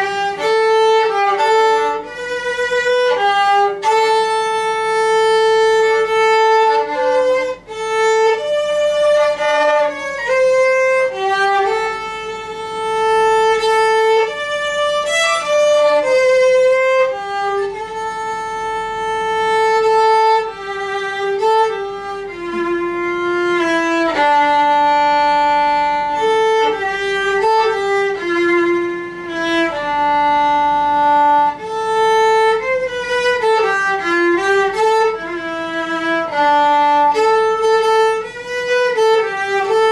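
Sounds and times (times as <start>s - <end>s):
solo violin slow melody: 0.0s - 39.9s.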